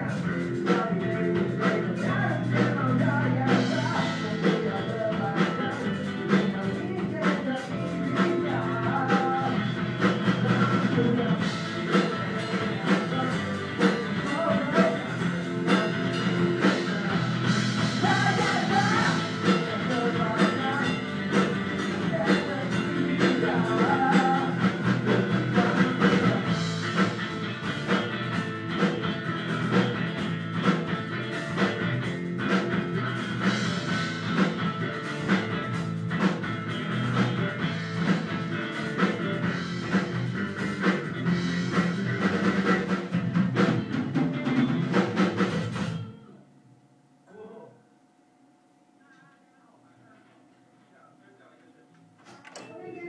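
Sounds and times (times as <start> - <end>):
drums hitting: 0.0 - 46.1
rock band playing: 0.0 - 46.3.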